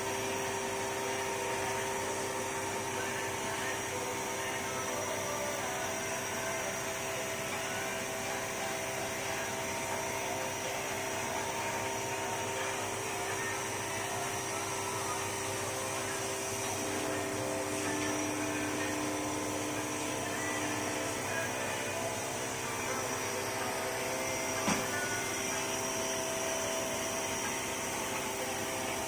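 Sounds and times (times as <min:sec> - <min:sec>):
laser cutter droning: 0:00.0 - 0:29.0.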